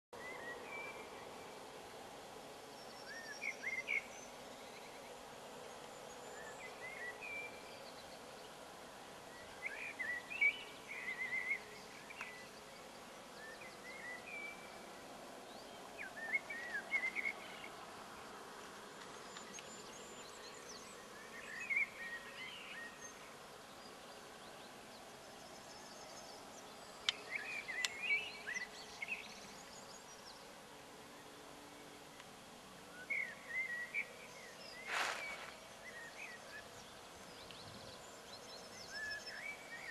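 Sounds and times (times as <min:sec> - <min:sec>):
outdoor background hum: 0:00.2 - 0:39.9
songbirds chirping: 0:00.2 - 0:39.9.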